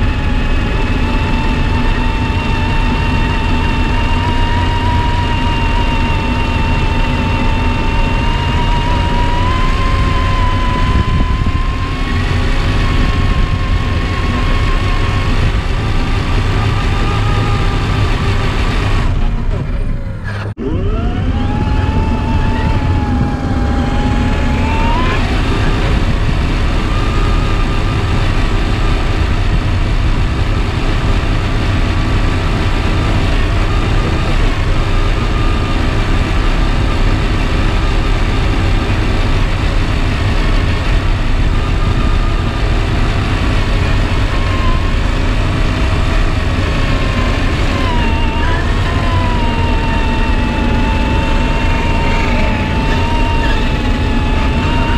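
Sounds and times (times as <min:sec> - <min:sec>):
toy truck motor whine: 0:00.0 - 0:29.8, 0:30.9 - 0:54.9.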